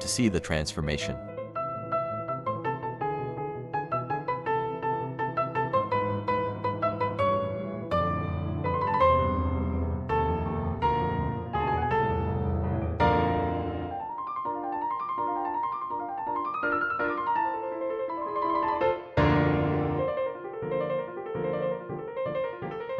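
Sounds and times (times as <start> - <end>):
piano music: 0.0 - 22.9.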